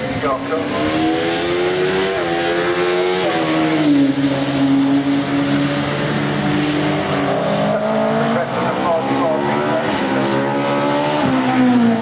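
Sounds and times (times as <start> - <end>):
race car engine accelerating: 0.1 - 12.0.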